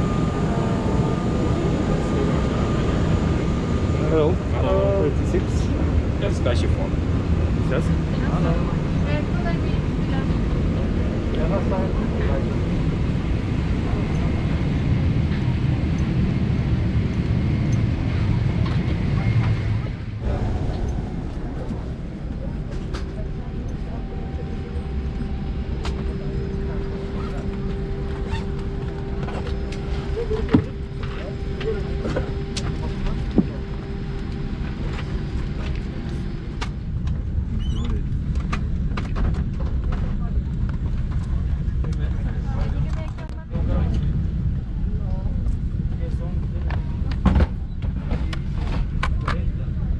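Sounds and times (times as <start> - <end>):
aircraft cabin rumble: 0.0 - 49.9.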